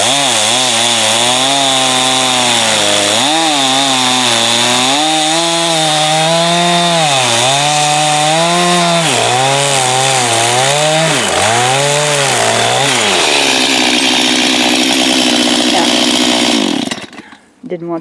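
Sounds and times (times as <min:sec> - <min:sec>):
chainsaw cutting log: 0:00.0 - 0:17.5.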